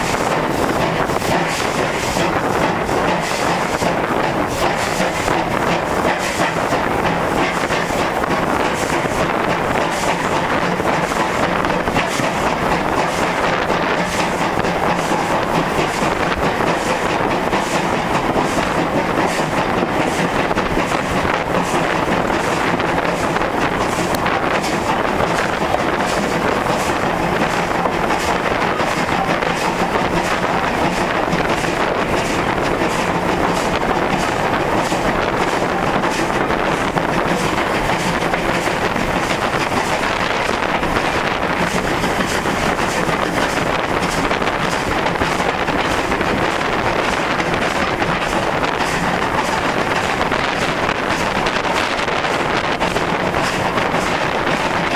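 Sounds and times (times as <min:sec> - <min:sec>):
steam locomotive running: 0:00.0 - 0:54.9
wind on microphone: 0:00.0 - 0:54.9.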